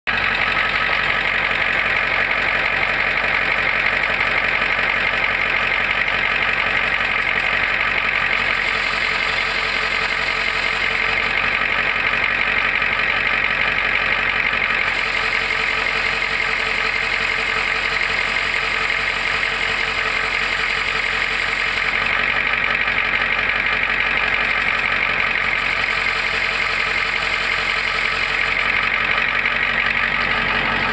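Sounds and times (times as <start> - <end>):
transmission whir with rattle: 0.1 - 30.9.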